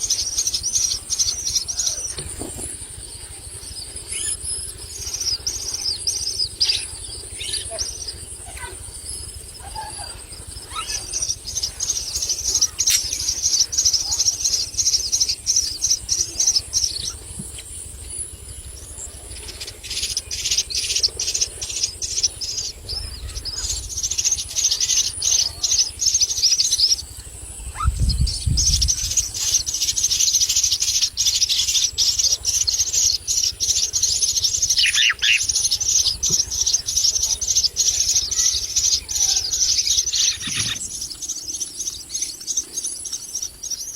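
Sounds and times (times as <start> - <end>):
chicks raspy begging chirps: 3.5 - 43.8.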